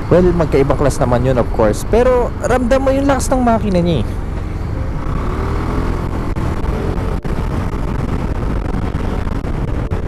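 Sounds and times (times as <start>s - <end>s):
road and wind noise: 0.0s - 10.0s.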